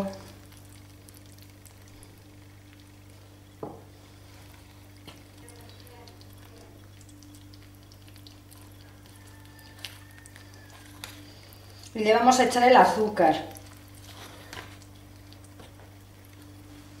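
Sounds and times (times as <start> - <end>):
small crackling ticks: 0.0 - 3.2, 4.5 - 12.0, 13.5 - 16.6
steady low hum: 0.0 - 17.0
spoon stirring wet dough: 2.7 - 17.0.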